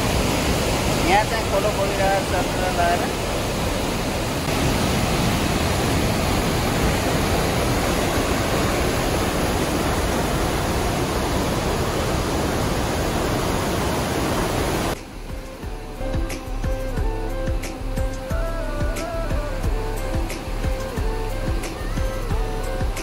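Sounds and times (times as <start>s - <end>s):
river water rushing over rapids: 0.0s - 23.0s.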